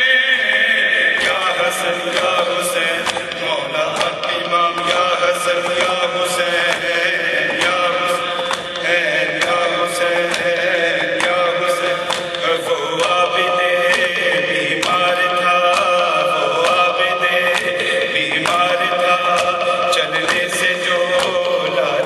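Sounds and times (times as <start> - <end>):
men chanting a lament: 0.0 - 22.0
sharp rhythmic beats: 0.0 - 22.0.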